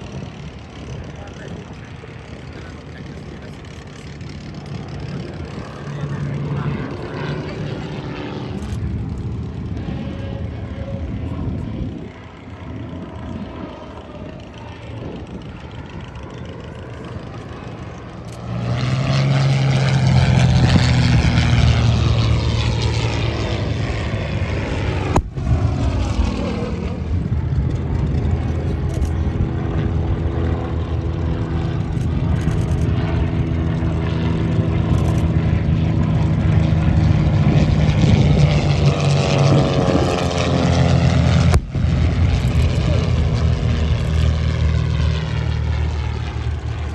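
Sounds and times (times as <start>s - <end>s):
propeller aircraft engine drone: 0.0s - 46.9s.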